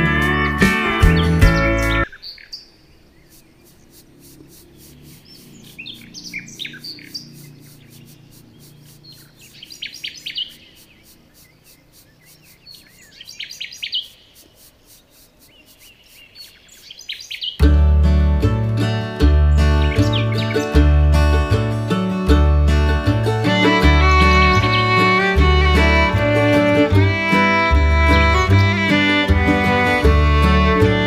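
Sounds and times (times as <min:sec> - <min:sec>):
small birds chirping: 0:00.0 - 0:17.7, 0:18.7 - 0:22.0, 0:23.3 - 0:31.0.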